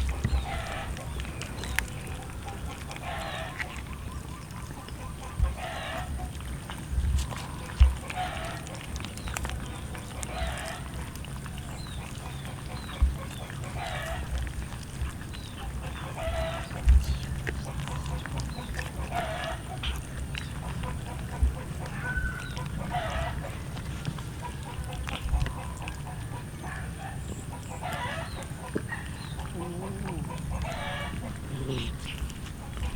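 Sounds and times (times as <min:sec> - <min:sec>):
chickens calling: 0:00.0 - 0:32.9.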